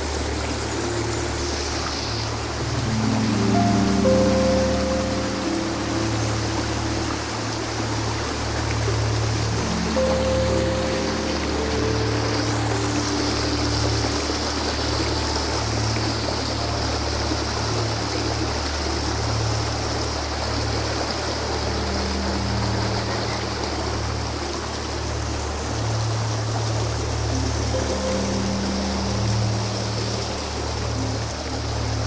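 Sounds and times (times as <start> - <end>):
river water rushing: 0.0 - 32.0
soft background music: 0.0 - 32.0.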